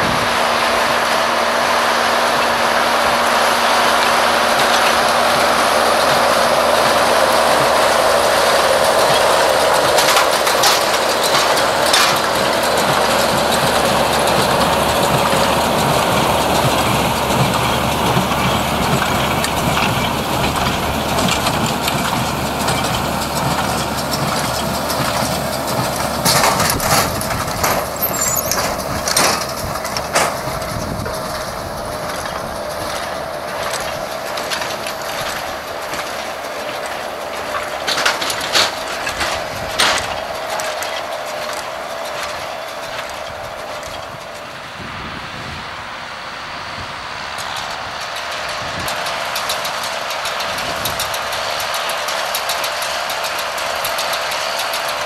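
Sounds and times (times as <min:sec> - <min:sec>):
machinery clanks and knocks: 0:00.0 - 0:44.6, 0:47.3 - 0:55.0
tractor diesel engine running: 0:00.0 - 0:55.0.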